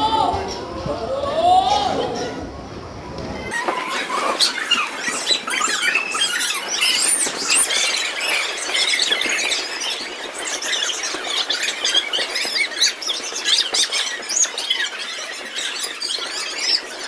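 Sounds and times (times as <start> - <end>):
children squealing: 0.0 - 2.5, 3.4 - 17.0.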